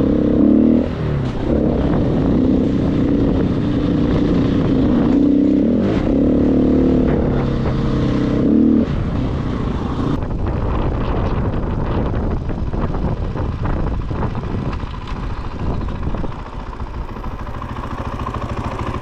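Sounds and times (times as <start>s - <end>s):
motorcycle engine revving: 0.0s - 19.0s
wind noise: 0.0s - 19.0s.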